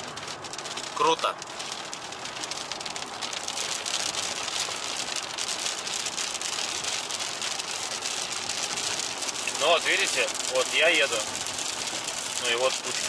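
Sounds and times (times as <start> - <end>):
rain and wet tyres hiss: 0.0 - 13.0
rain ticking on windshield: 0.0 - 13.0.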